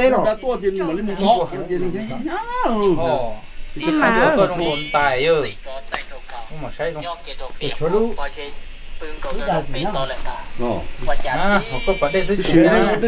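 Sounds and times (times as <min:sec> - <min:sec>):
high-pitched insect drone: 0:00.0 - 0:13.0
people talking: 0:00.0 - 0:13.0.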